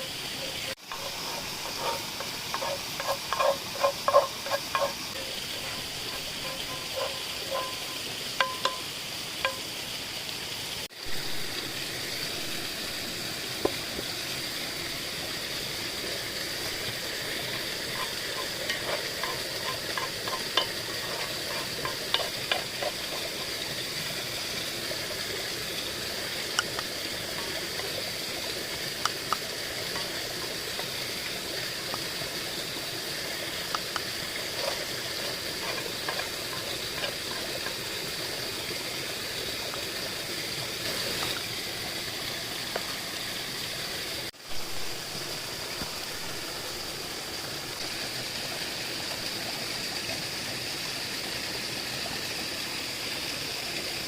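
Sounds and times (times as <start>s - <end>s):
food sizzling in a pan: 0.0s - 50.1s.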